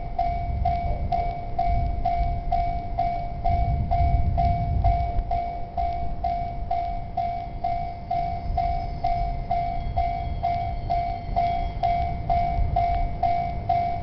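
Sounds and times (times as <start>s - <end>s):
level crossing electronic bell alarm: 0.0s - 14.0s
low rumble: 0.0s - 14.0s.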